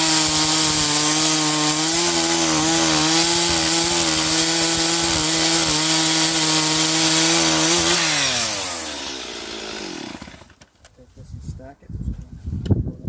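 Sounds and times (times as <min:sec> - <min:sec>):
chainsaw cutting log: 0:00.0 - 0:10.6.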